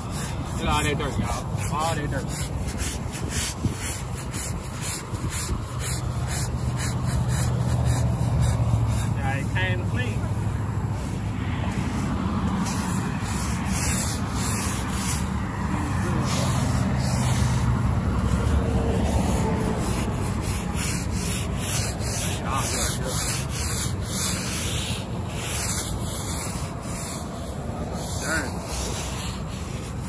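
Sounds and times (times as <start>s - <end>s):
scrubbing strokes: 0.0s - 30.0s.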